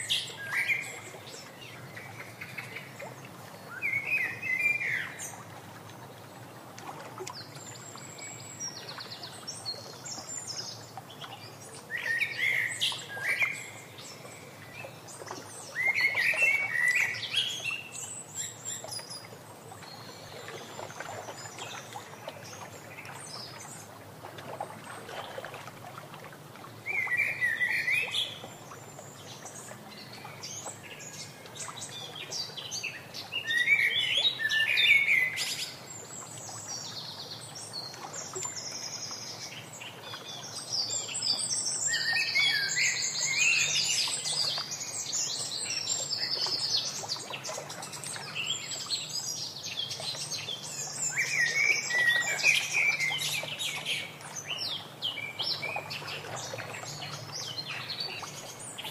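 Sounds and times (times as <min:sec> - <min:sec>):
wild birds chirping: 0:00.0 - 0:24.0, 0:26.8 - 0:58.9.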